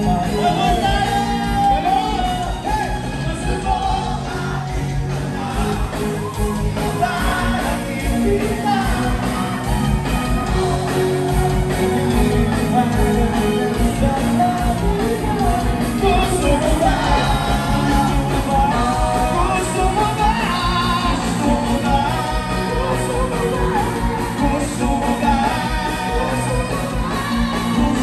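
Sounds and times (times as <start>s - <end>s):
live band playing pop music: 0.0s - 28.0s
person singing: 0.0s - 28.0s.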